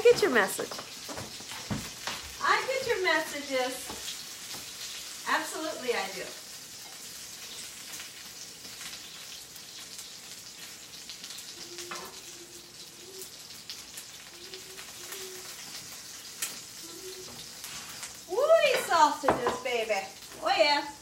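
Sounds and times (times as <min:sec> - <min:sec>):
sausages sizzling in a skillet: 0:00.0 - 0:21.0.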